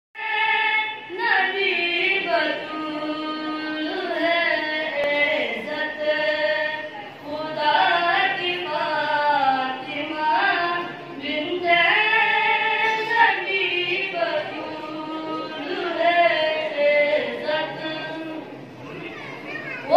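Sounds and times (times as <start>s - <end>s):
boy singing devotional song: 0.2s - 19.9s.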